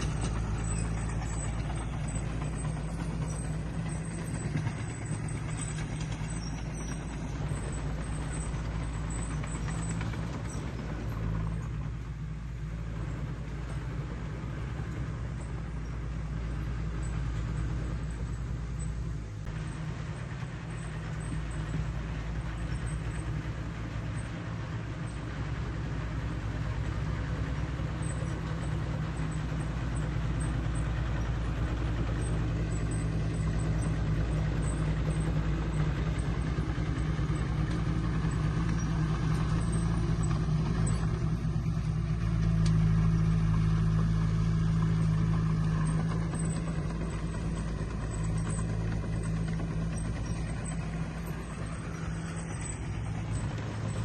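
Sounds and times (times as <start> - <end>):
heavy machinery diesel engine drone: 0.0 - 54.0.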